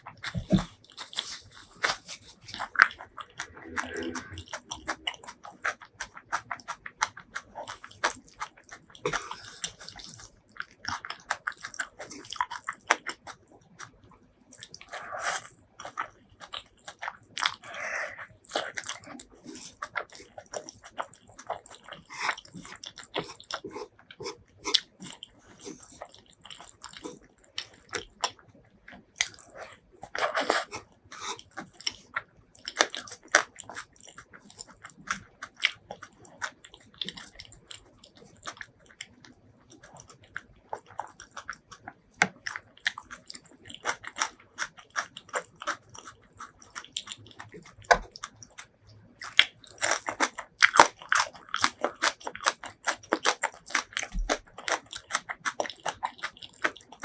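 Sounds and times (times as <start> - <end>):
biting and chewing food: 0.0 - 57.0.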